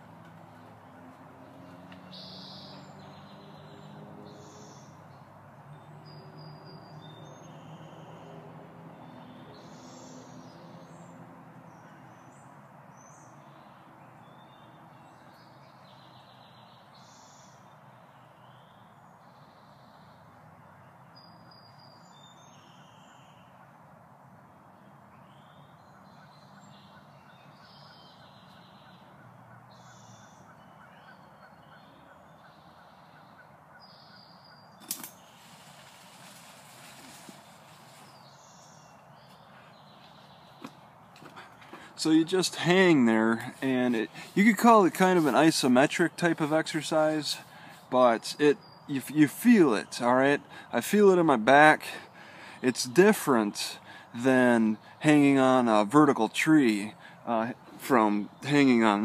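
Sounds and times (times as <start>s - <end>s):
small birds chirping: 0.0s - 23.9s, 24.6s - 59.0s
outdoor background hiss: 0.0s - 59.0s.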